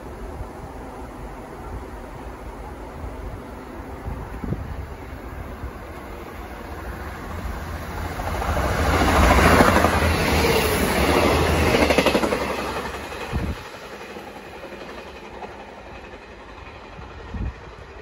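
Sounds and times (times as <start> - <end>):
diesel train passing: 0.0 - 18.0.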